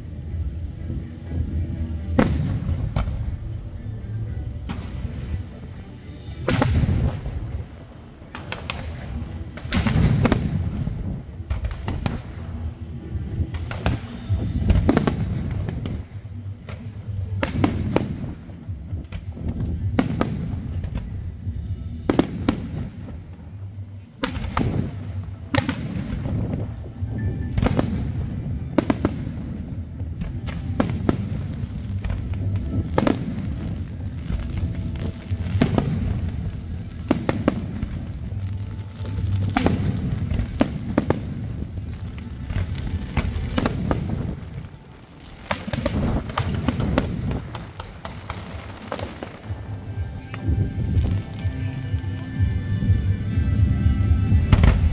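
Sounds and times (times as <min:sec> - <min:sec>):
continuous low rumble: 0:00.0 - 0:54.9
fireworks bangs: 0:02.0 - 0:03.8, 0:04.6 - 0:23.6, 0:24.2 - 0:53.3, 0:54.0 - 0:54.9.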